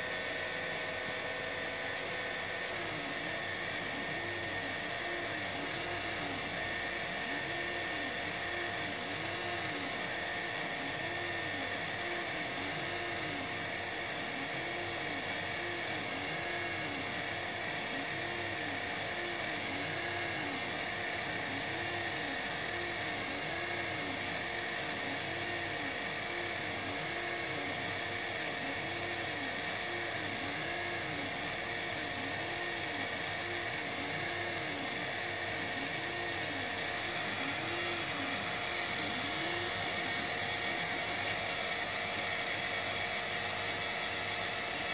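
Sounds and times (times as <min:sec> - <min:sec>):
steady high whine: 0:00.0 - 0:44.9
stepper motors whining: 0:00.3 - 0:44.9.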